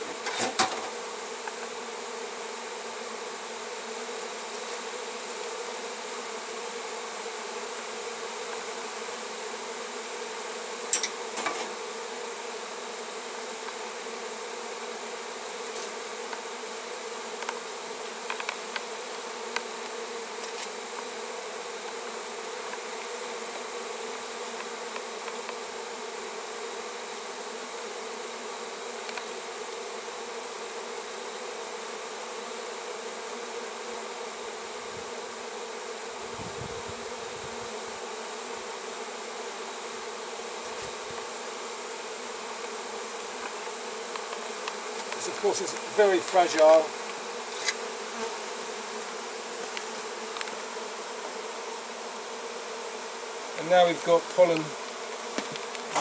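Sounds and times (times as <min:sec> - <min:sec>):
honeybee swarm buzzing: 0:00.0 - 0:56.0.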